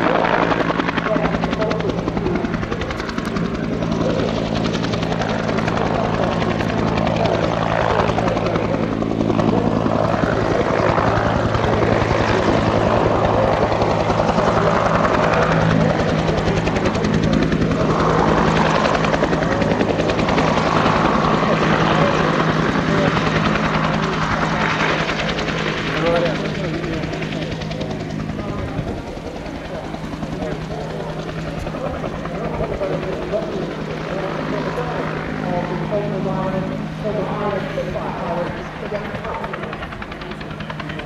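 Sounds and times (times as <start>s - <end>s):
helicopter rotor beating: 0.0s - 41.0s
turboshaft engine: 0.0s - 41.0s.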